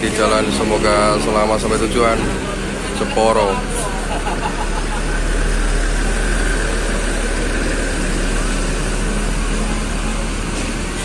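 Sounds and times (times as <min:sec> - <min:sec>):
diesel coach engine running: 0:00.0 - 0:11.0.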